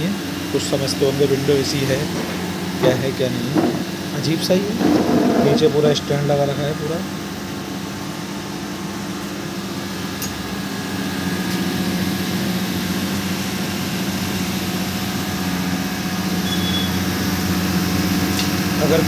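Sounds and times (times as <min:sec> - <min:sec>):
compressor and fan humming: 0:00.0 - 0:19.0.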